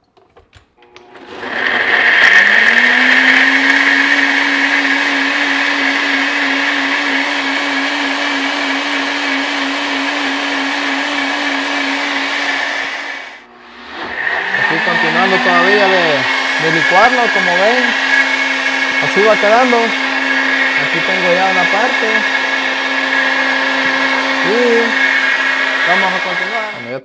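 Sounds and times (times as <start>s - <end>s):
blender motor whine: 0.8s - 27.0s.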